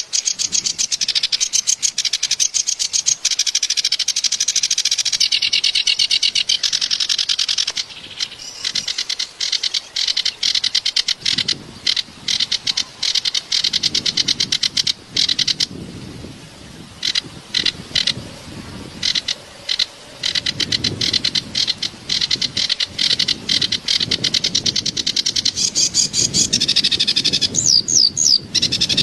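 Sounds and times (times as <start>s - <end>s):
reed warbler chattering song: 0.0s - 29.0s.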